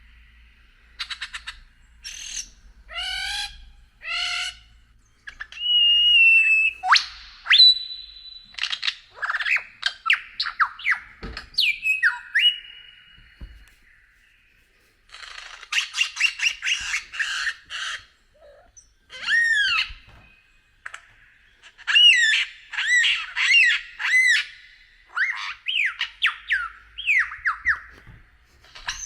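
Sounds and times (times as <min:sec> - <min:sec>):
bird chirps sliding downward: 0:00.0 - 0:29.0
slurred bird calls: 0:00.0 - 0:29.0
harsh rasping bird notes: 0:00.1 - 0:29.0
bird whistle: 0:01.0 - 0:14.2, 0:15.5 - 0:21.0, 0:21.6 - 0:28.1.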